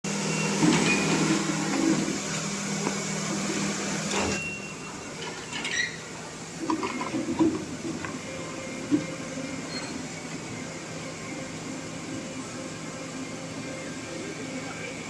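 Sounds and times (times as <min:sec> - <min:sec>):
crane machinery humming: 0:00.1 - 0:15.0.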